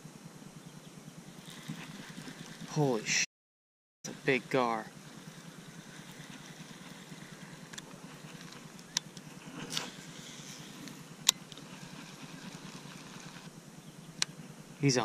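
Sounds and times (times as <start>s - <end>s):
low hum: 0.0s - 3.3s, 4.0s - 15.0s.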